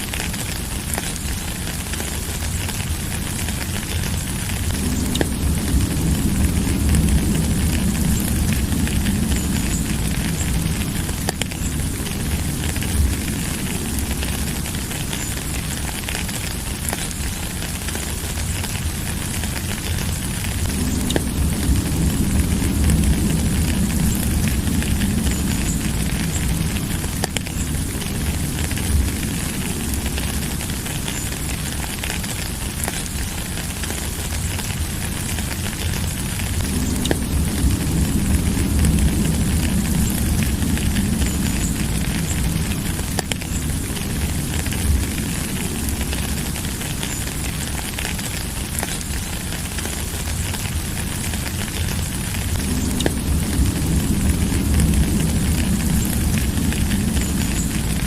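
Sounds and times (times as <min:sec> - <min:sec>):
deep low rumble: 0:00.0 - 0:58.0
raindrops ticking: 0:00.0 - 0:58.0
steady rain hissing: 0:00.0 - 0:58.0.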